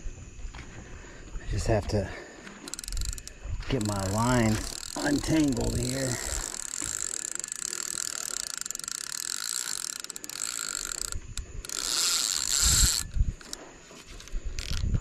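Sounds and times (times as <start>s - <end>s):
fishing reel ticking: 1.6s - 15.0s.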